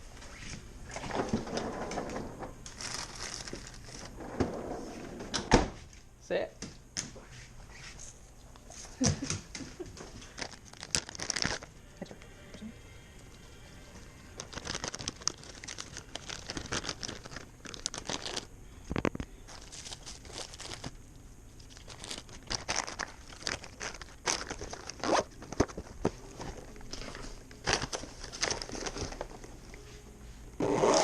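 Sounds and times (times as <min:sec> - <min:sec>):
crinkling and rustling: 0:00.0 - 0:06.0, 0:07.6 - 0:11.7, 0:13.3 - 0:30.0.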